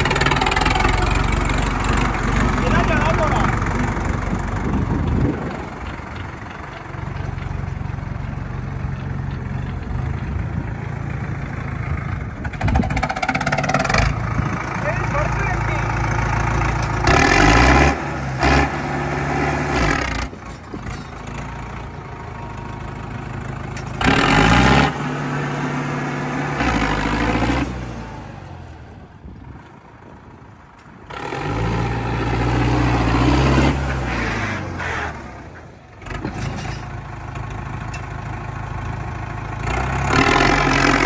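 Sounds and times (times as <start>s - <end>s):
tractor diesel engine revving: 0.0s - 41.0s.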